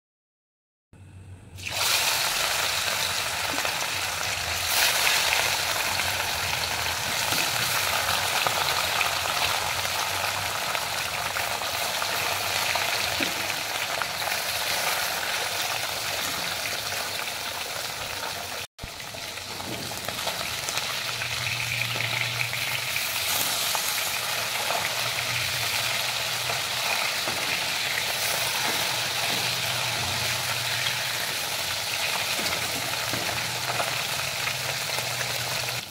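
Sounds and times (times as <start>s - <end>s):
fish sizzling in hot oil: 1.6s - 35.9s.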